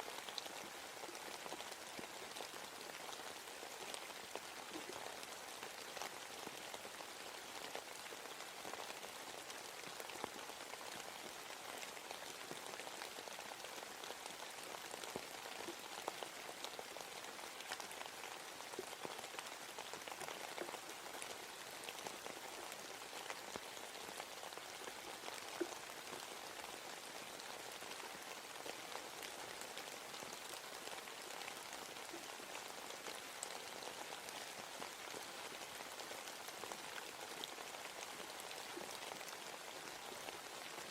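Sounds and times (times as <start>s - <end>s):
rain pattering on leaves: 0.0s - 40.9s.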